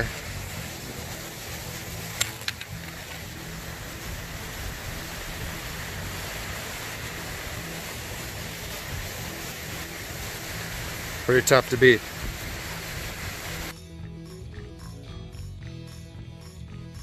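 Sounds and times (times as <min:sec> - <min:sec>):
stream water rushing over rocks: 0:00.0 - 0:13.7.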